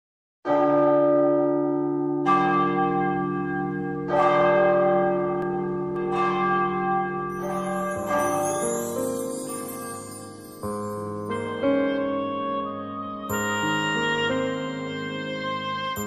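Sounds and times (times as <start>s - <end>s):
church bell tolling: 0.5s - 12.2s, 13.3s - 16.0s.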